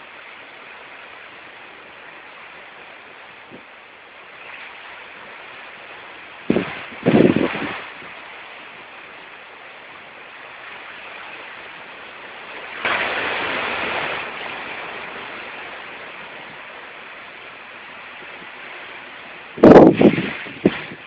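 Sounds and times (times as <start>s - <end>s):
storm wind and rain: 0.0s - 21.0s.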